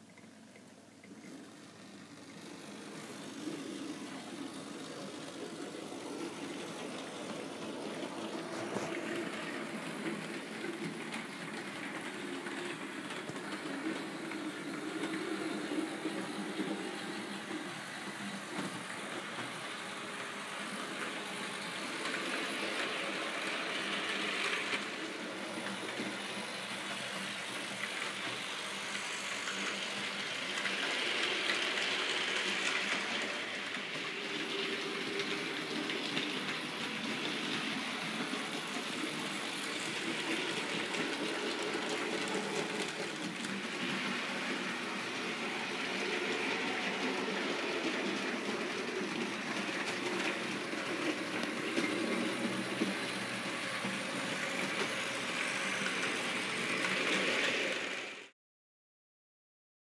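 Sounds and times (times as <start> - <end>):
model train wheels on rails: 0.0 - 58.3.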